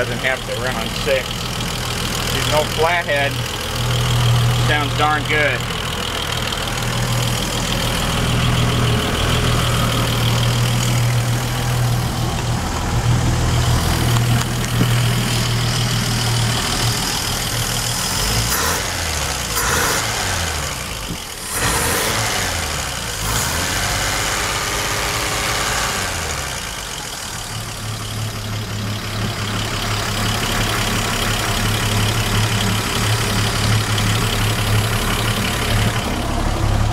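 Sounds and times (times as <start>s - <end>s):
boat engine idling and revving: 0.0s - 36.9s.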